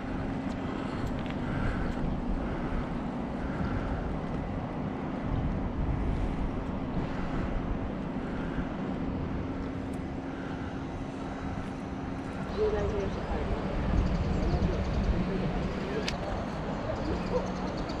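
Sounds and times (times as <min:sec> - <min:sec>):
steady low hum: 0:00.0 - 0:18.0
wind rumbling on microphone: 0:00.0 - 0:18.0.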